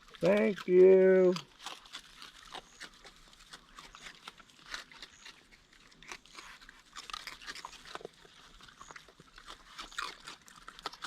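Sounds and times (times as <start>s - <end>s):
raccoons crunching cereal: 0.0s - 11.0s.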